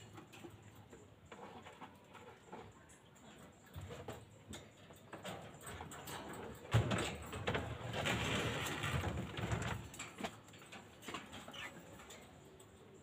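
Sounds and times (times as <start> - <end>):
scraping and rattling: 0.0 - 13.0.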